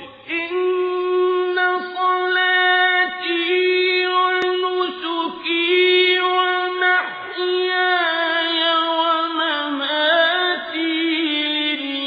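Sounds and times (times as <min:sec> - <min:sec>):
person chanting: 0:00.0 - 0:12.0.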